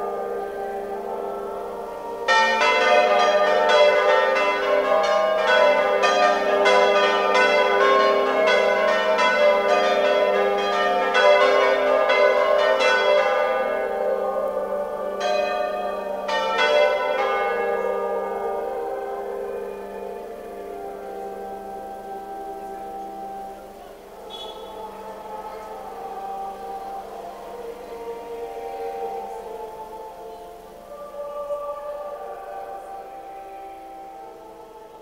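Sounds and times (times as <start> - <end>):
church bells pealing: 0.0 - 35.0.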